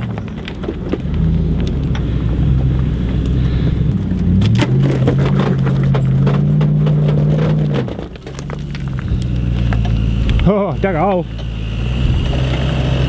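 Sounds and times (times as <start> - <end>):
rocks crunching under tyres: 0.0 - 13.0
vehicle engine revving: 0.8 - 13.0.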